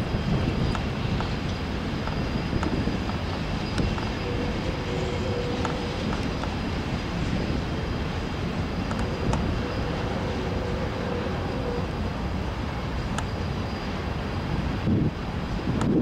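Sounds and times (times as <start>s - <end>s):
diesel locomotive engines running: 0.0s - 16.0s
wheels rumbling on rails: 0.0s - 16.0s.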